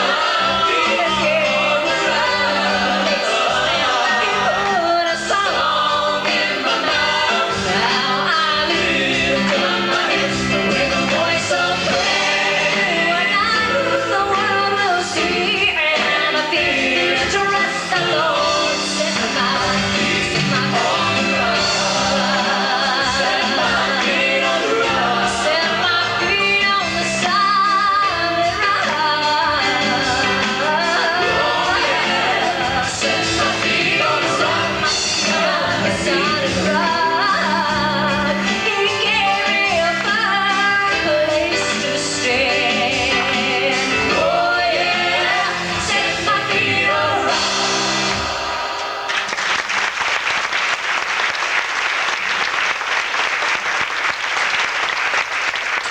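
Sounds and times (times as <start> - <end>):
instrumental accompaniment: 0.0 - 49.0
vocal group singing gospel: 0.0 - 49.3.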